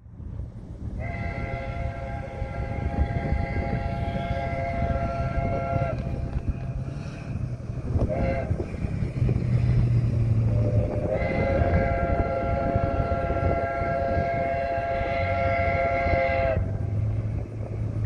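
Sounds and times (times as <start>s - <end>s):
low rumble: 0.0s - 18.0s
distant locomotive air horn: 1.0s - 17.5s.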